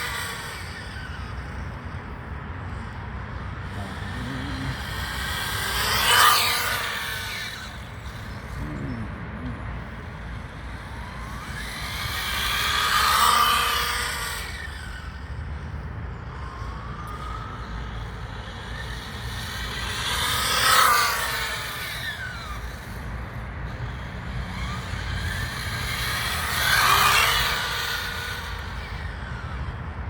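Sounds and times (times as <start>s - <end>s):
rc car motor whine passing: 0.0s - 30.0s.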